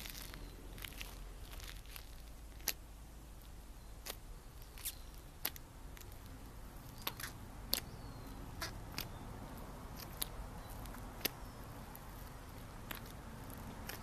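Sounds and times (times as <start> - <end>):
crunchy slime crackling: 0.0 - 14.0.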